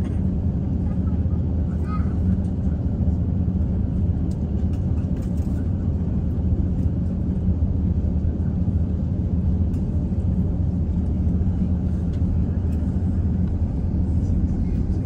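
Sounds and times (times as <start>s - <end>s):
aircraft engines rumbling: 0.0s - 15.0s.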